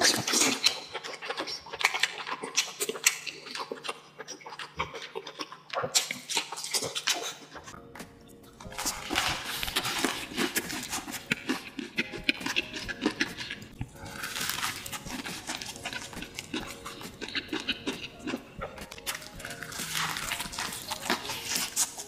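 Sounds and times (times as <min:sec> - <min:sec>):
wet mouth chewing: 0:00.0 - 0:22.0.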